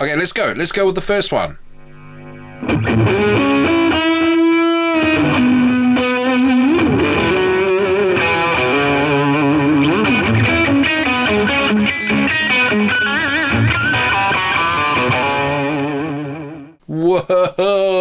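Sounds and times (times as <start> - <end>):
electric guitar rock lead: 1.7 - 16.8.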